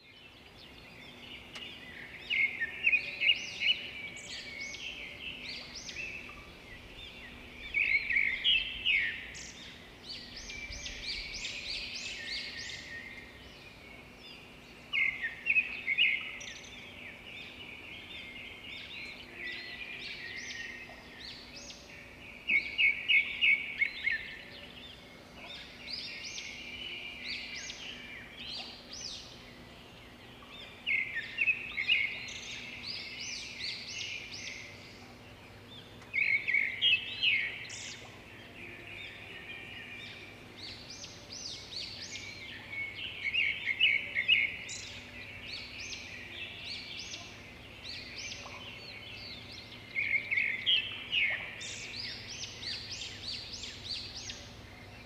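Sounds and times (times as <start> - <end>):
birds calling and chirping: 0.0 - 55.0.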